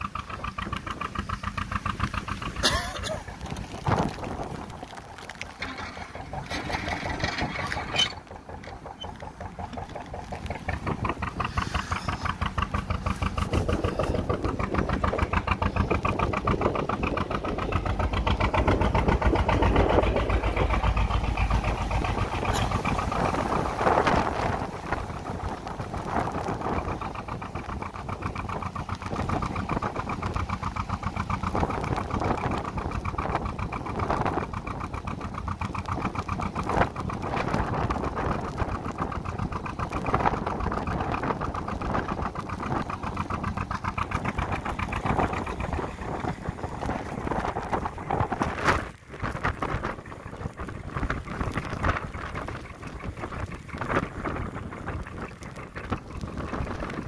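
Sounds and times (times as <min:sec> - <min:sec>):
boat engine running: 0:00.0 - 0:57.0
wind on microphone: 0:03.1 - 0:57.0.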